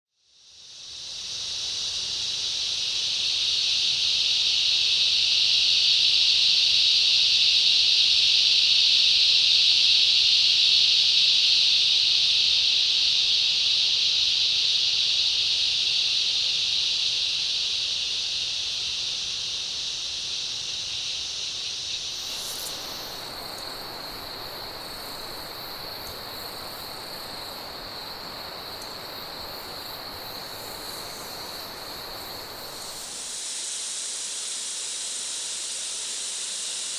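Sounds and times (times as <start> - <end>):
broad hiss: 0.3 - 36.9
insects buzzing: 0.3 - 36.9.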